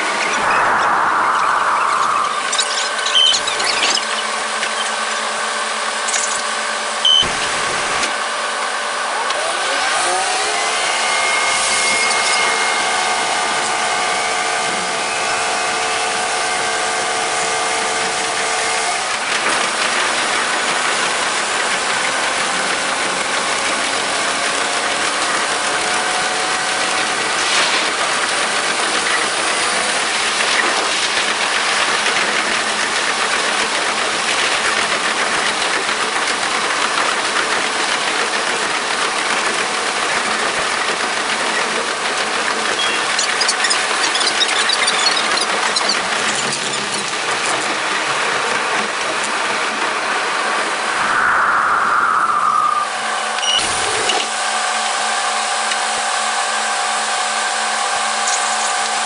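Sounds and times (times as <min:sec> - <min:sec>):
diesel railcar engine: 0:00.0 - 0:59.0.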